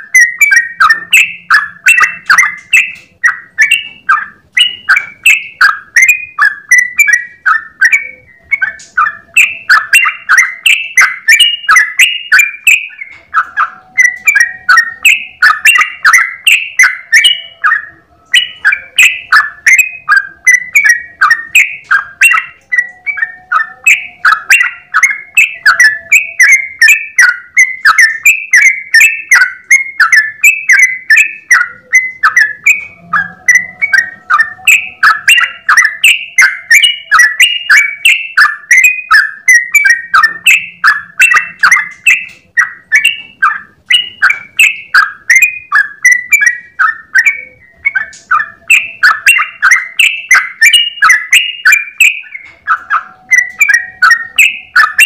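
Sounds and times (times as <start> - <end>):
bird singing bubbly chirps: 0.0 - 55.0.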